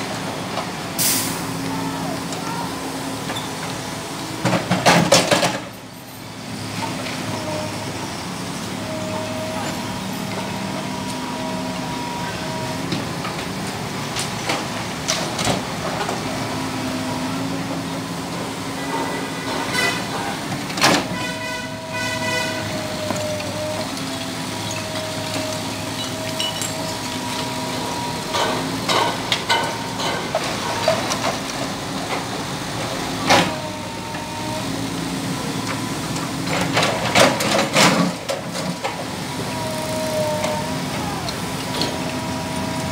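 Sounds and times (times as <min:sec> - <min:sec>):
excavator engine whine: 0:00.0 - 0:42.9.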